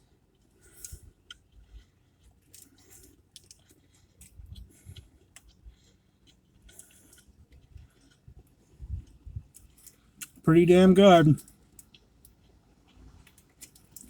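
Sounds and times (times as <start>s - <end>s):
chewing crunchy food: 0.0s - 10.5s, 11.4s - 14.0s.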